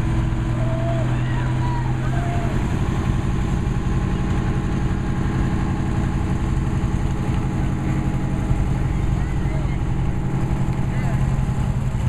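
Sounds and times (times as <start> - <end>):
fire truck engine droning: 0.0 - 12.0.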